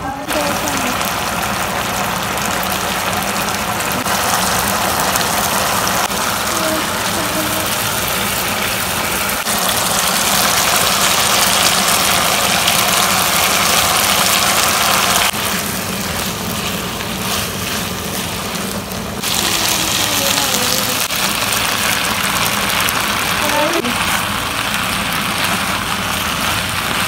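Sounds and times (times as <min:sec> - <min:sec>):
food sizzling in frying pan: 0:00.0 - 0:27.0
steady low hum: 0:00.0 - 0:27.0.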